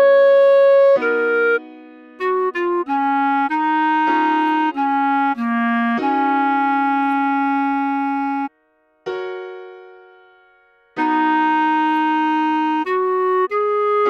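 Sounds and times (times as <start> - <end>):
clarinet melody: 0.0 - 8.5, 11.0 - 14.0.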